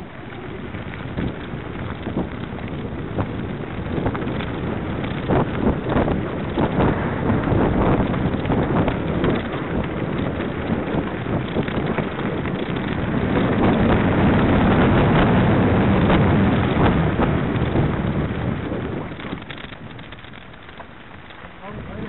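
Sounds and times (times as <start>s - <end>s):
bike rattles and knocks: 0.0s - 22.0s
wind buffeting microphone: 0.0s - 22.0s.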